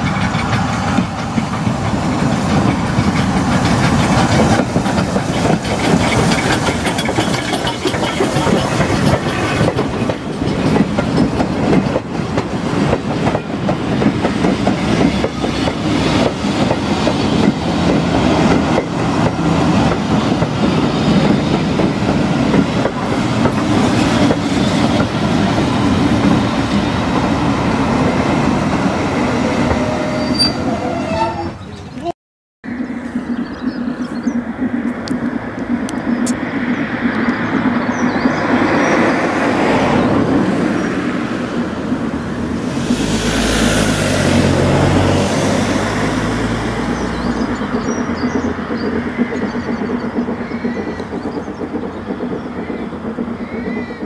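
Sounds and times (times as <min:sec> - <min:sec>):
train wheels clattering over rail joints: 0:00.0 - 0:31.9, 0:33.2 - 0:54.0
steam locomotive passing: 0:00.0 - 0:32.1, 0:32.7 - 0:54.0.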